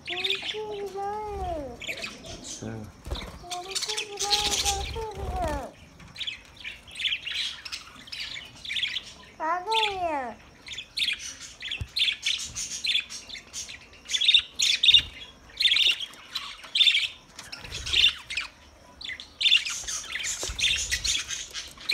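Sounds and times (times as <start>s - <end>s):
budgerigars chirping and chattering: 0.0s - 21.9s.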